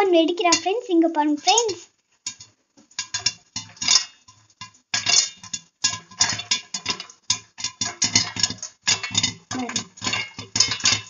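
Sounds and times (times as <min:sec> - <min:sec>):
popcorn popping in hot oil: 0:00.0 - 0:11.0
kernels clinking against pan lid: 0:01.4 - 0:11.0.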